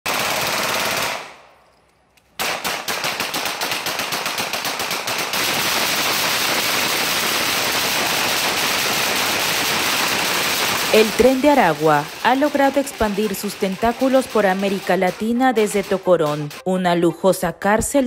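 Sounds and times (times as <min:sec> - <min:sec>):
rapid gunfire: 0:00.0 - 0:01.4, 0:02.4 - 0:16.7.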